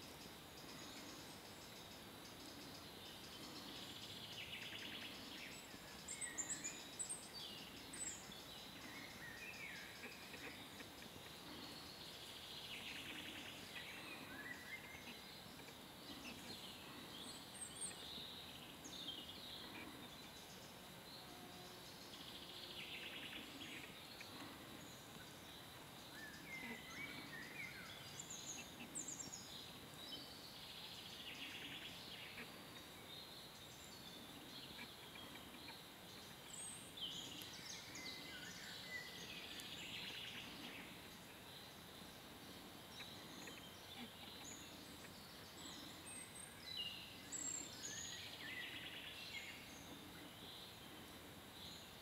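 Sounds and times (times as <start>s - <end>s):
faint birdsong: 0.0s - 52.0s
steady background hiss: 0.0s - 52.0s.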